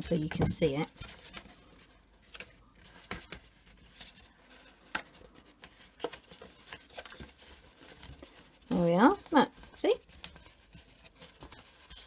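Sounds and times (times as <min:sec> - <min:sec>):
cardstock rustling: 0:00.1 - 0:12.0.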